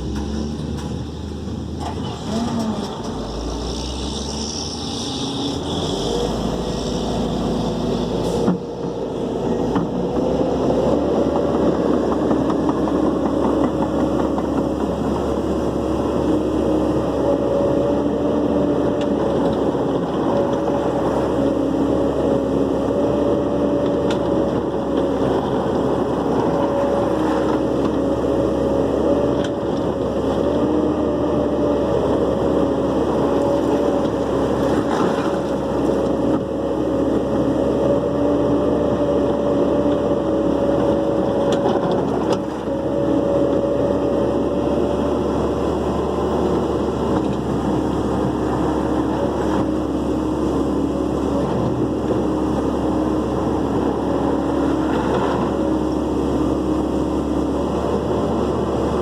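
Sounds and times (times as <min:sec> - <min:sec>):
dump truck engine running: 0:00.0 - 0:59.0.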